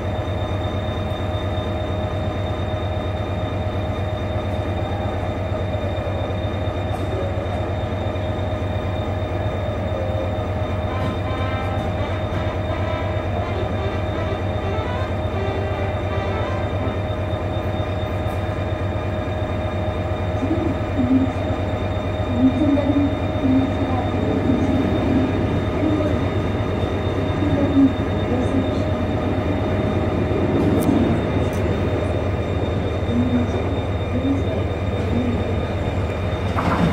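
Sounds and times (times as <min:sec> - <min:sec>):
train idling hum: 0:00.0 - 0:36.9.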